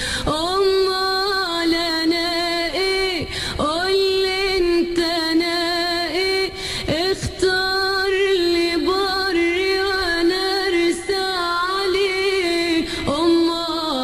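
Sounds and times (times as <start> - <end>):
woman singing with vibrato: 0.0 - 14.0.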